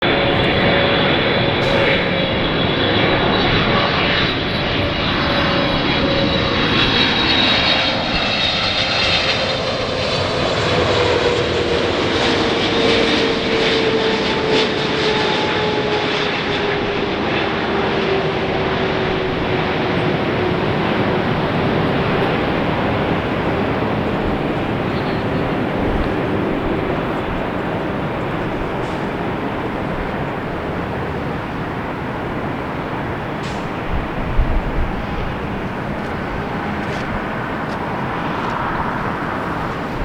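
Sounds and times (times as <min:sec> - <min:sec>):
airliner engines passing: 0:00.0 - 0:40.0.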